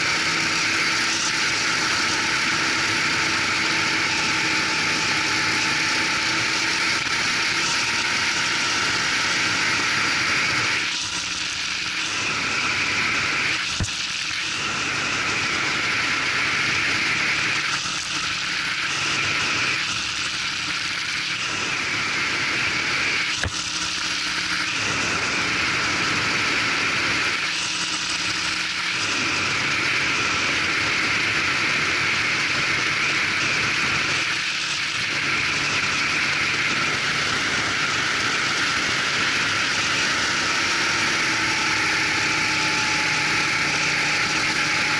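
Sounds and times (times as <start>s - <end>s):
kart engine running hard: 0.0s - 44.9s.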